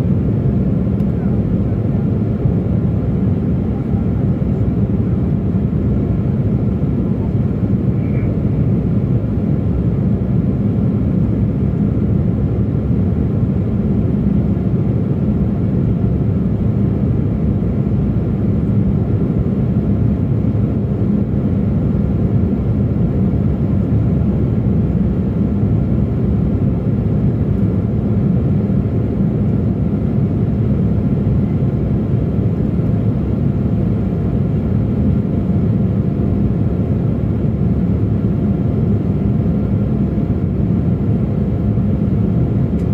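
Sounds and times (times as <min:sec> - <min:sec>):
jet engine hum: 0:00.0 - 0:42.9.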